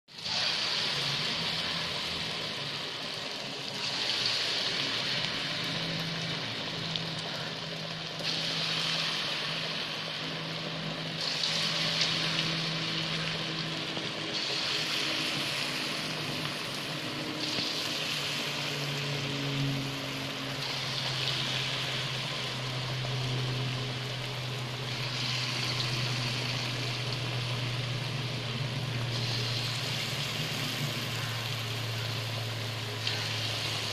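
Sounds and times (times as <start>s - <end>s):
food deep-frying in oil: 0.1s - 33.9s
low hum: 0.2s - 33.9s.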